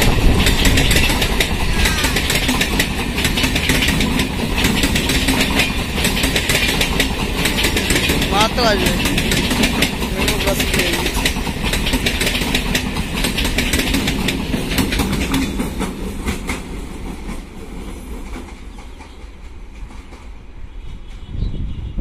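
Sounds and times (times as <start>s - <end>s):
wheels clattering over rail joints: 0.0s - 20.4s
electric train passing: 0.0s - 21.4s.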